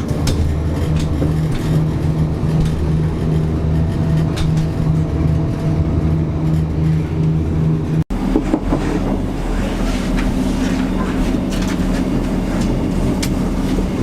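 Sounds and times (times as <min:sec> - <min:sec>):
engine hum with pulsing drone: 0:00.0 - 0:14.0
rumbling noise: 0:00.0 - 0:14.0.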